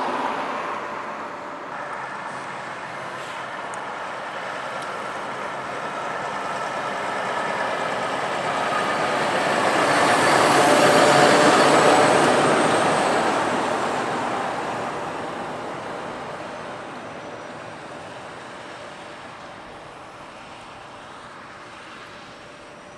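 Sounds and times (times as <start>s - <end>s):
heavy truck driving past: 0.0s - 19.4s.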